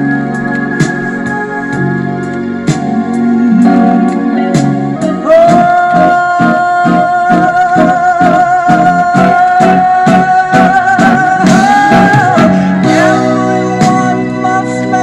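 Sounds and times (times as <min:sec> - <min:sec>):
wavering melody line: 0:00.0 - 0:13.8
plucked guitar accompaniment: 0:00.0 - 0:15.0.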